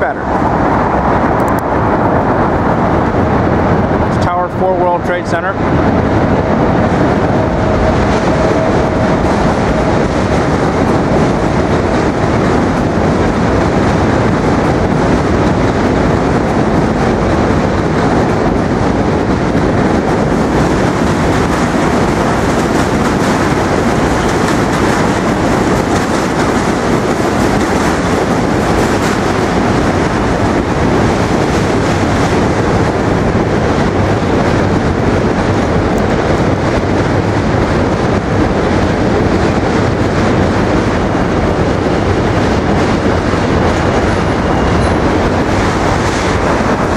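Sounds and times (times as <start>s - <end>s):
subway train on tracks: 0.0s - 46.9s.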